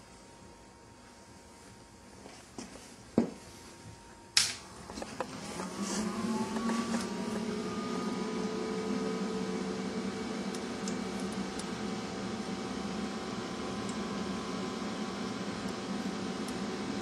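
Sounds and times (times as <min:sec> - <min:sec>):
extractor fan whirring hum: 0:00.0 - 0:17.0.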